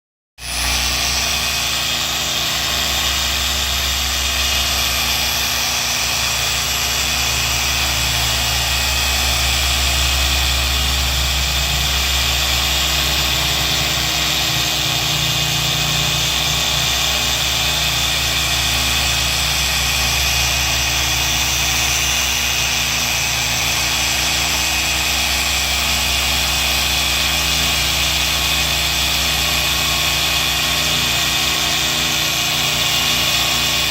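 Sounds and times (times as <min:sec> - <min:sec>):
power sander running: 0:00.4 - 0:33.9.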